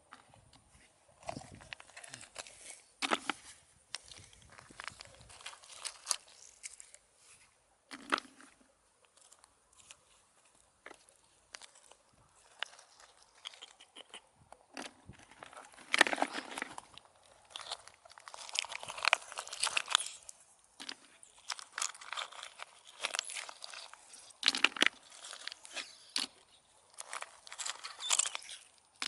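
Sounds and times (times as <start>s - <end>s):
crunching and scraping: 0.0s - 29.0s.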